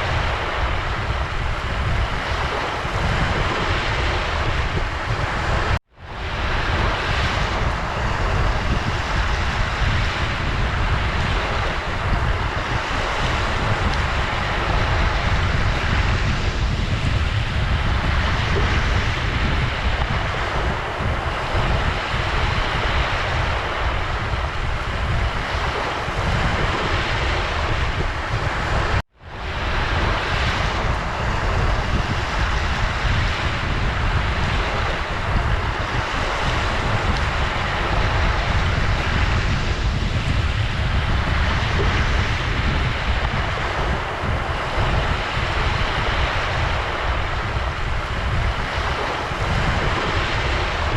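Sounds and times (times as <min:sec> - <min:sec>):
ocean surf washing: 0:00.0 - 0:50.9.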